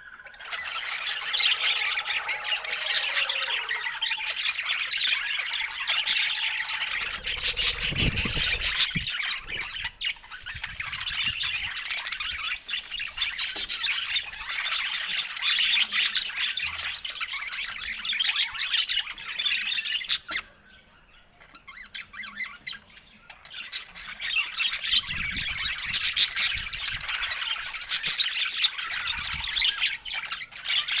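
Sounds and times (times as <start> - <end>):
budgerigars chattering and squawking: 0.0 - 31.0.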